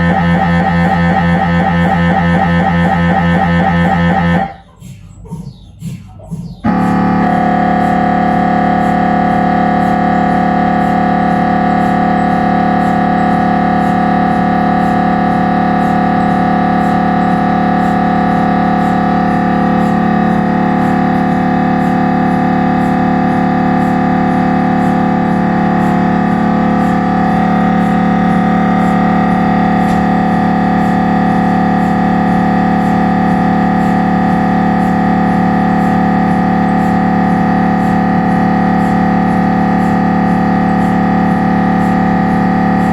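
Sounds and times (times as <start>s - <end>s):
mri scanner buzzing: 0.0s - 4.7s, 6.6s - 42.9s.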